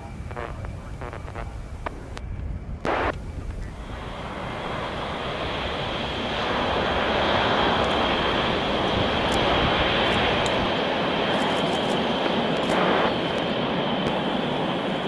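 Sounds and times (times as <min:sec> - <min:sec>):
high turbine whine: 0:00.0 - 0:15.0
jet aircraft flying overhead: 0:00.0 - 0:15.0.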